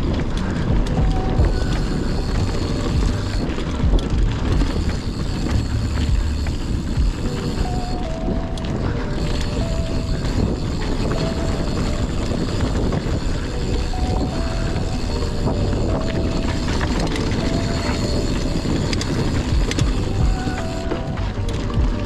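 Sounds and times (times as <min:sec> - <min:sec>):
tyres rumbling over dirt: 0:00.0 - 0:22.0
wind on microphone: 0:00.0 - 0:22.0.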